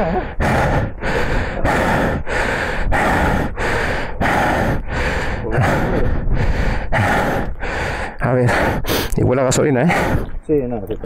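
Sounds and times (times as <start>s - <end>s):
person panting hard: 0.0s - 9.2s, 9.9s - 10.3s.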